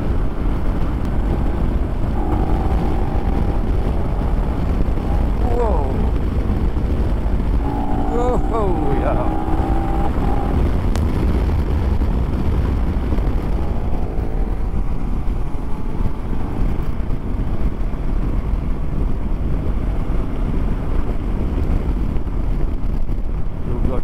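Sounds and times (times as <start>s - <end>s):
faint motorcycle engine: 0.0s - 24.0s
wind rush over microphone: 0.0s - 24.0s.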